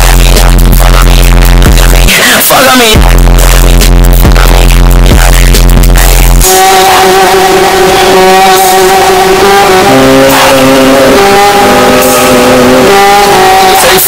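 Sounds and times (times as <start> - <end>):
distorted droning music: 0.0 - 14.0.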